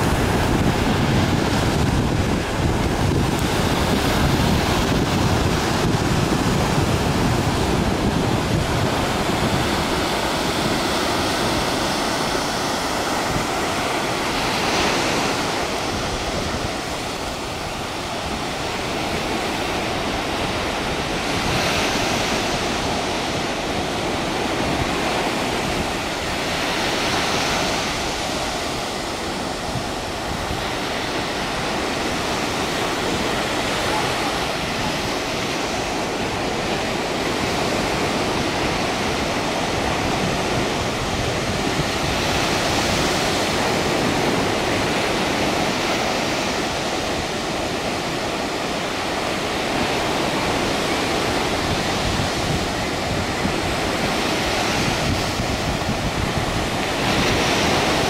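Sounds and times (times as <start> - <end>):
surf breaking on beach: 0.0 - 58.0
wind buffeting microphone: 0.0 - 58.0.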